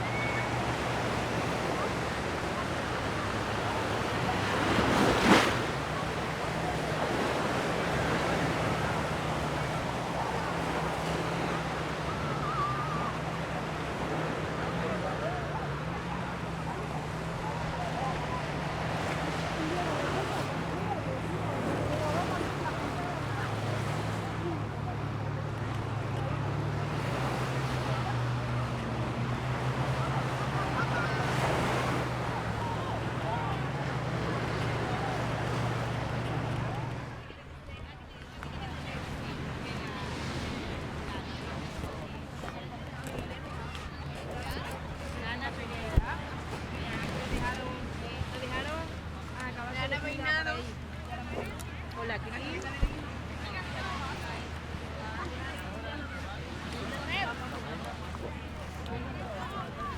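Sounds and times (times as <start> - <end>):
faint distant voices: 0.0 - 59.9
waves washing onto sandy beach: 0.0 - 59.9
wind and surf: 0.0 - 59.9.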